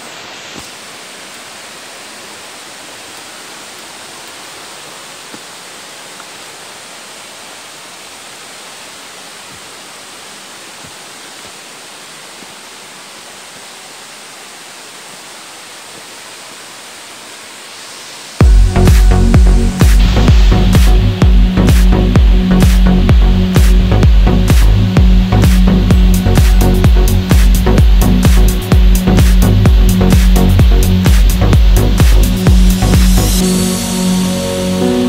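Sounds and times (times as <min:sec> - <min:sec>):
stream running over rocks: 0:00.0 - 0:34.9.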